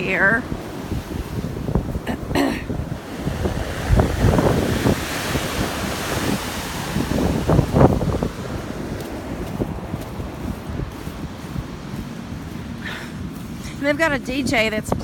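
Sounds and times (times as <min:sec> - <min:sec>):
ocean surf breaking: 0:00.0 - 0:14.5
wind buffeting microphone: 0:00.0 - 0:15.0.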